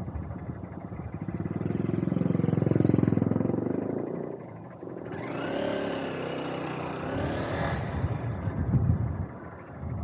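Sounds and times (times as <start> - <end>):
motorcycle engine running: 0.0 - 10.0
second engine accelerating: 0.0 - 10.0.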